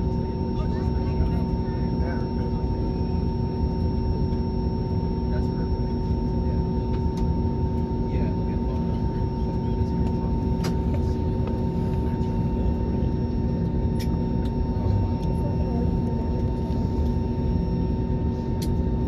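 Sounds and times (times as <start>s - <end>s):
jet airliner cabin drone: 0.0s - 19.0s.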